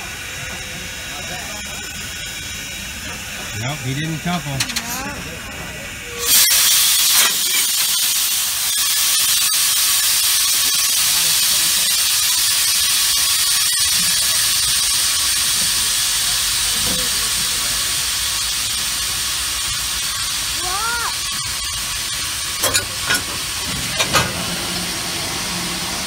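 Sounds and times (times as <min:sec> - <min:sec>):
steam locomotive hissing: 0:00.0 - 0:26.0.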